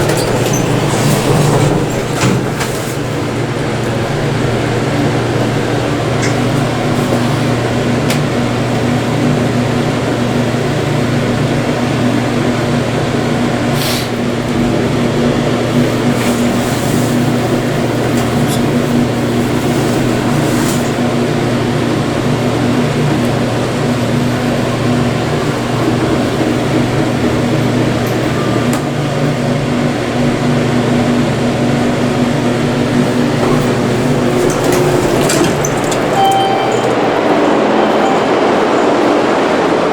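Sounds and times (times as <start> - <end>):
subway train running: 0.0 - 39.9.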